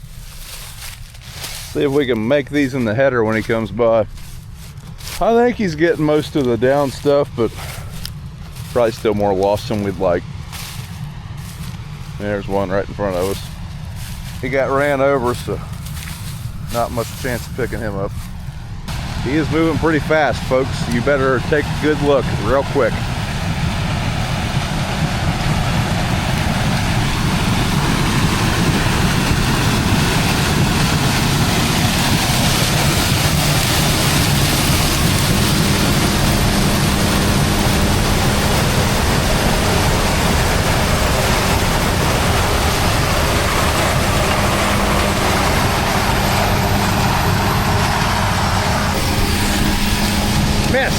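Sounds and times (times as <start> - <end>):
continuous rushing noise: 0.0 - 50.9
low engine drone: 0.0 - 50.9
steady hum: 0.0 - 50.9.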